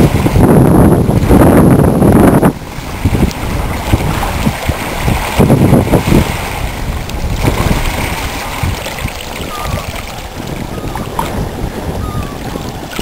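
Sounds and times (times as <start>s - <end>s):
sea washing among ice floes: 0.0s - 13.0s
wind buffeting microphone: 0.0s - 13.0s.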